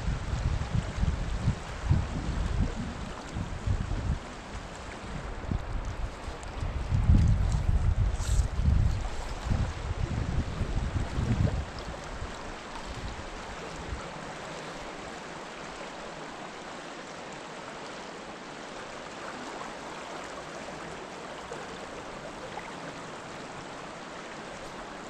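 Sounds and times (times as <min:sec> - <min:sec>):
creek water running over rocks: 0:00.0 - 0:25.0.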